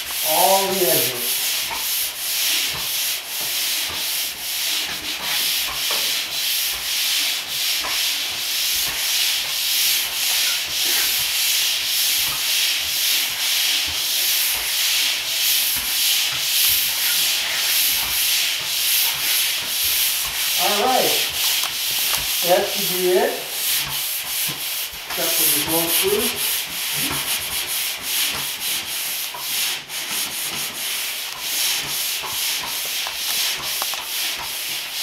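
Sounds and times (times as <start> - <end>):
pole sander scratching on drywall: 0.0 - 35.0.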